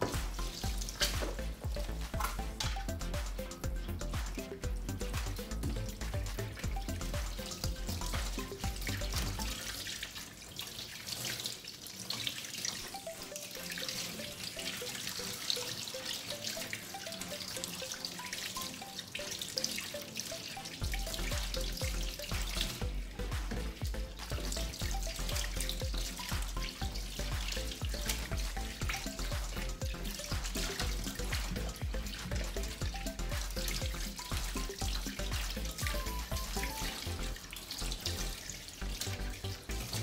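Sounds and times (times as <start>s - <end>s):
background music: 0.0s - 10.2s, 12.8s - 40.0s
hands rinsing vegetables: 0.0s - 40.0s
tap water running into sink: 0.0s - 40.0s.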